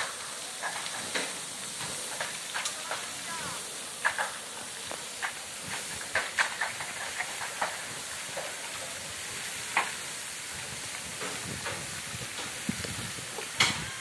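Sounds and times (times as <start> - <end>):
water gushing and spraying: 0.0 - 14.0
water spattering: 0.0 - 14.0.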